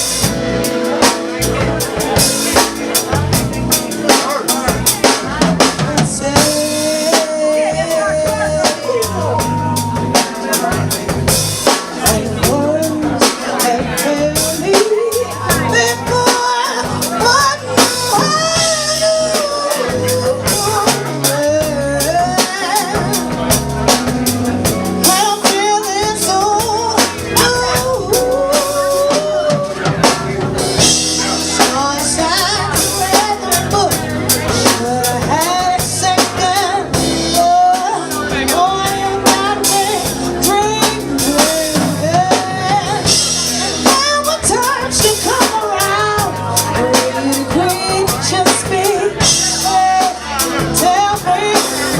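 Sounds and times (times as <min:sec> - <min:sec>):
drum kit beat: 0:00.0 - 0:51.9
live band playing: 0:00.0 - 0:51.9.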